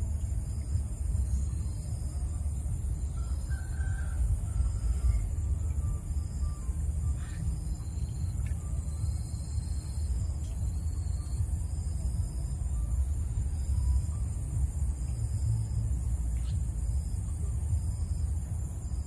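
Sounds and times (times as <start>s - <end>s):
low rumble: 0.0s - 19.0s
pulsing insect drone: 0.0s - 19.0s.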